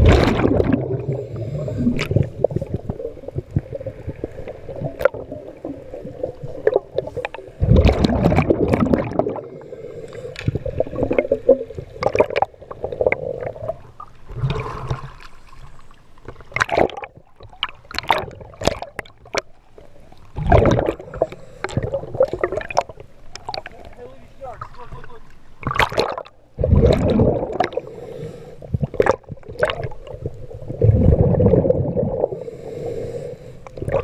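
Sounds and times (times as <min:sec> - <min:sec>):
water gurgling and splashing: 0:00.0 - 0:32.8, 0:33.6 - 0:34.0.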